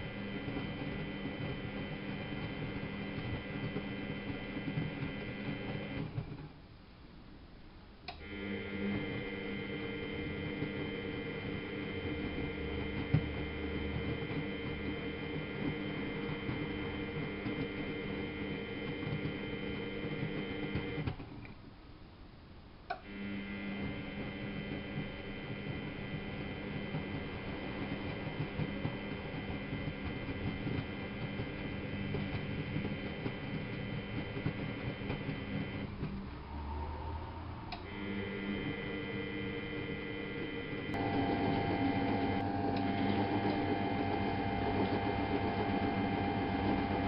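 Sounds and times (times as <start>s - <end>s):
washing machine motor whine: 0.0s - 6.5s, 8.1s - 21.4s, 22.9s - 47.0s.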